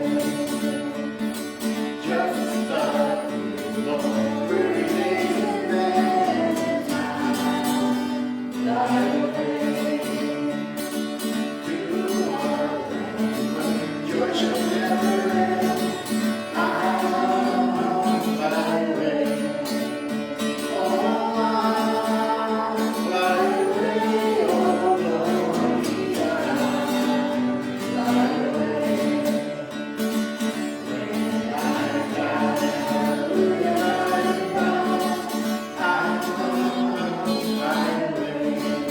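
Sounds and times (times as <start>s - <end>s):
acoustic guitar: 0.0s - 38.9s
people singing: 0.0s - 38.9s.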